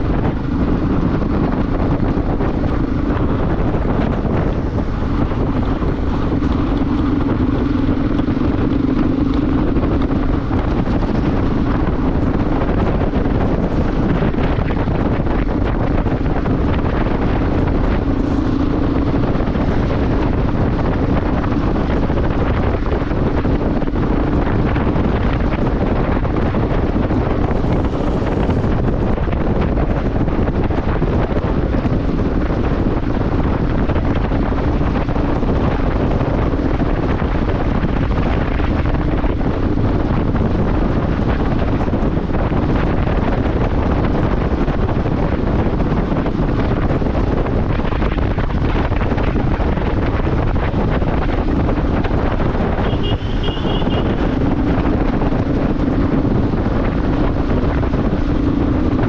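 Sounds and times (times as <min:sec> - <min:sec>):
motorcycle engine hum: 0:00.0 - 0:59.0
wind buffeting microphone: 0:00.0 - 0:59.0.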